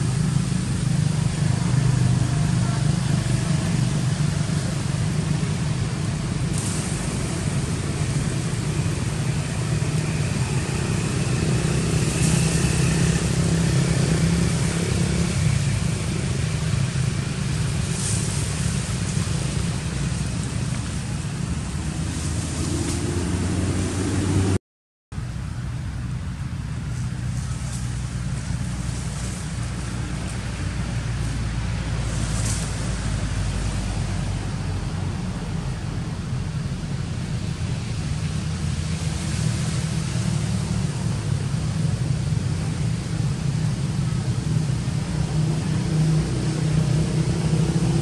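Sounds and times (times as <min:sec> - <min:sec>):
low outdoor rumble: 0:00.0 - 0:48.0.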